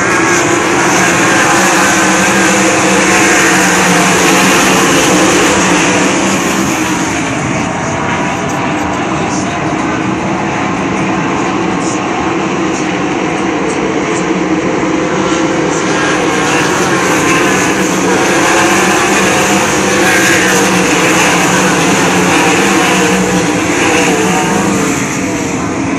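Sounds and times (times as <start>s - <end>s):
racing car engines: 0.0s - 25.9s.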